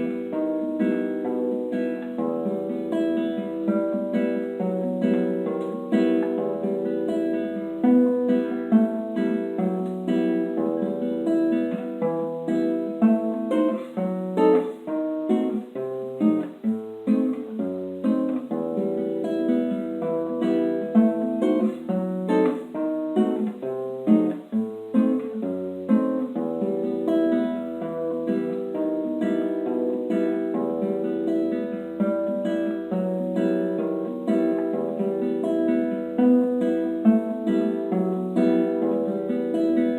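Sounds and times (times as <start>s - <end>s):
classical guitar playing: 0.0s - 39.9s.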